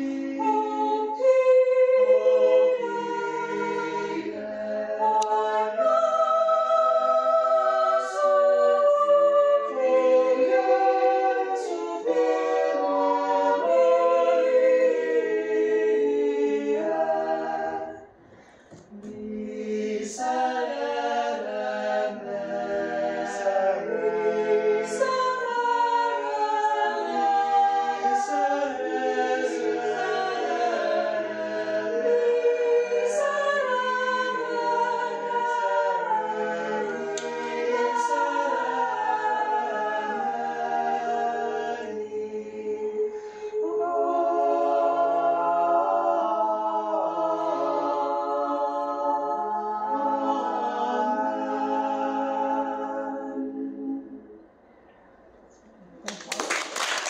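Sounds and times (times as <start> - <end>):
choir singing a cappella: 0.0 - 54.8.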